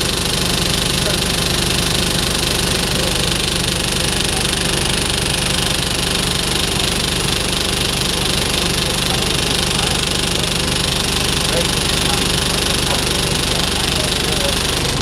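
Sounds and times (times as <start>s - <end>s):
diesel bus engine idling: 0.0s - 15.0s
engine banging: 0.0s - 15.0s.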